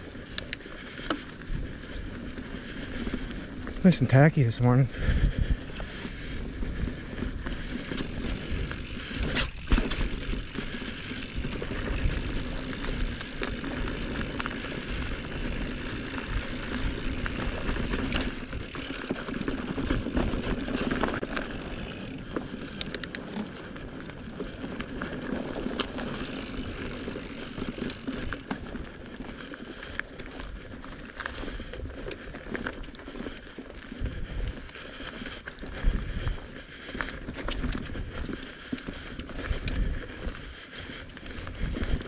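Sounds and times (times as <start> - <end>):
bike tyres rolling over dirt: 0.0 - 42.0
bike rattling and knocking: 5.2 - 42.0.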